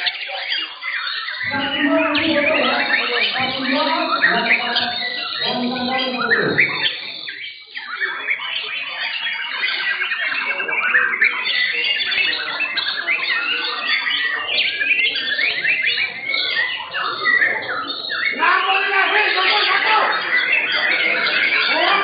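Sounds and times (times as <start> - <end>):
birds singing whistles and trills: 0.0 - 22.0.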